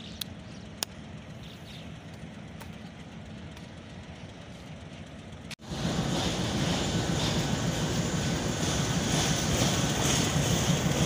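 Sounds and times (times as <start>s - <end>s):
locomotive engine droning: 0.0s - 11.0s.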